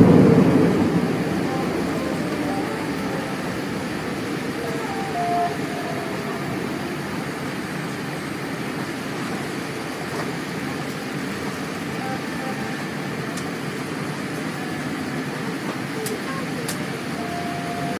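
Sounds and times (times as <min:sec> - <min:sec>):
airliner cabin engine rush: 0:00.0 - 0:17.9.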